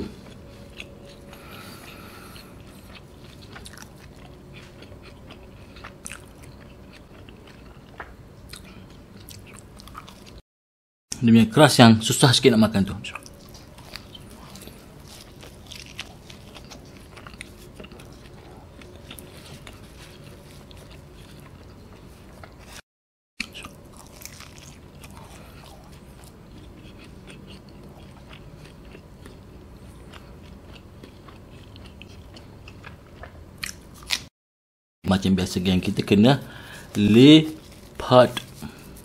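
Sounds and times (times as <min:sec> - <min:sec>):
chewing pizza crust: 0:00.0 - 0:10.4, 0:13.1 - 0:22.8, 0:23.4 - 0:34.3, 0:36.6 - 0:39.0.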